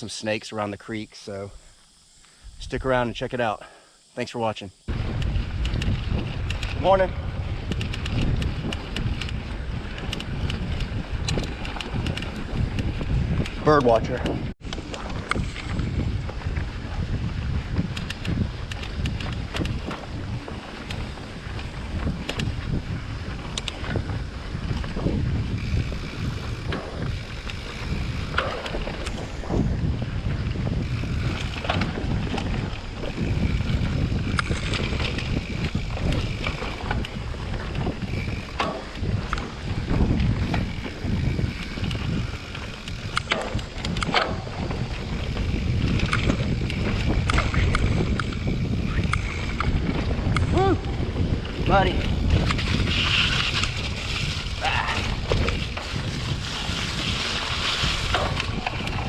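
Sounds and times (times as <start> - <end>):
wind buffeting microphone: 4.1 - 59.0
mountain bike rolling on trail: 4.8 - 59.0
bike clicks and rattles: 4.9 - 59.0.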